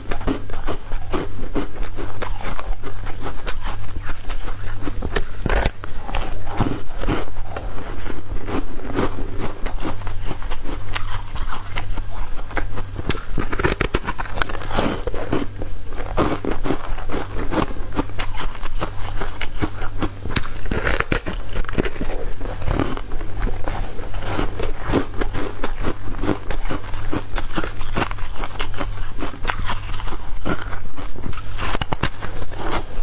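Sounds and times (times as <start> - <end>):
ice being bitten and chewed: 0.0 - 33.0
steady low hum: 0.0 - 33.0.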